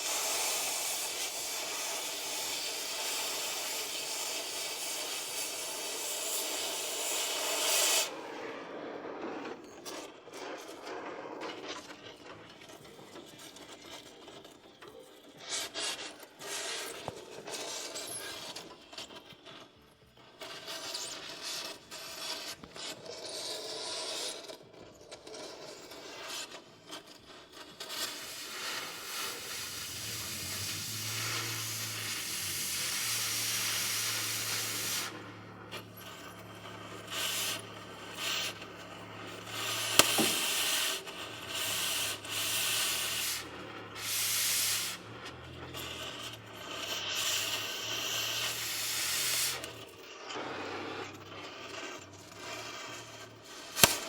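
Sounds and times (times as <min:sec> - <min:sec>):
hissing grinding noise: 0:00.0 - 0:54.0.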